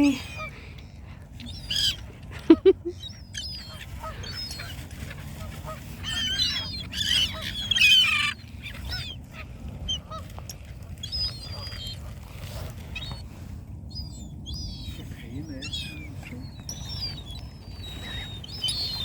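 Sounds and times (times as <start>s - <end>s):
waterbirds calling: 0.0s - 19.0s.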